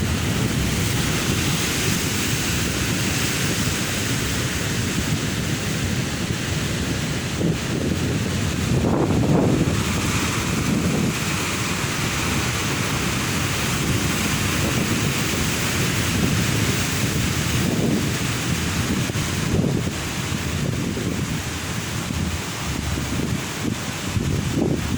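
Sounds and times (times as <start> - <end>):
ocean surf breaking: 0.0 - 24.9
wind rumbling on microphone: 0.0 - 24.9.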